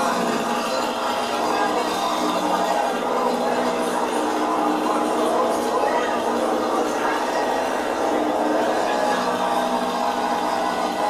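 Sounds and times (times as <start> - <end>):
chainsaw engines running: 0.0 - 11.0
voices: 0.0 - 11.0.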